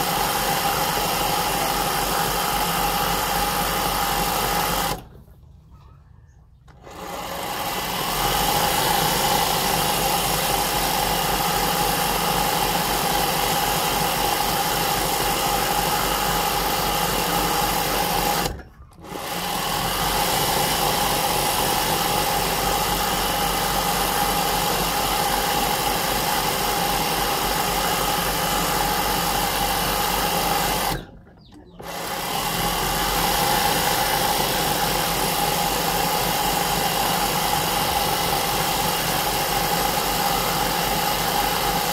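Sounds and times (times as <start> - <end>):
sewing machine stitching: 0.0 - 5.3, 6.7 - 41.9.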